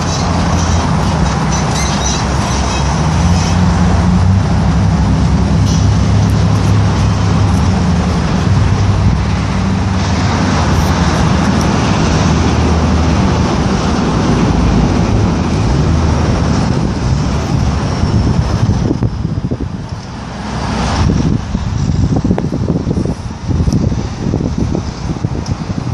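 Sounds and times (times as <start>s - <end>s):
steady rushing noise: 0.0s - 25.9s.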